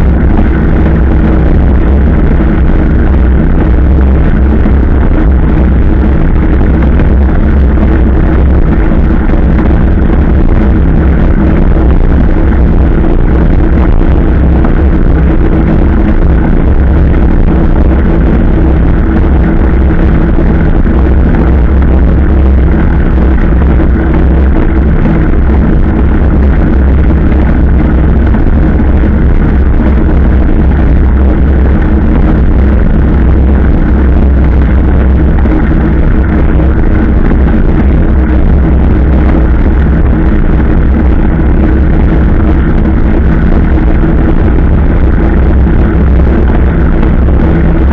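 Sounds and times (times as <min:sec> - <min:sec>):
motorcycle engine running: 0:00.0 - 0:47.9
wind rushing noise: 0:00.0 - 0:47.9.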